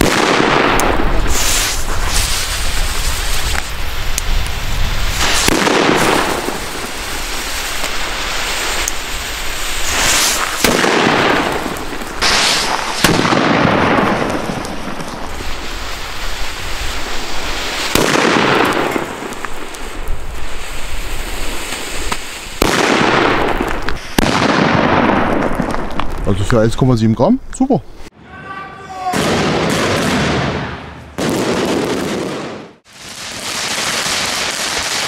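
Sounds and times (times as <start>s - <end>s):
firecracker bangs: 0.0s - 26.1s, 28.9s - 35.0s.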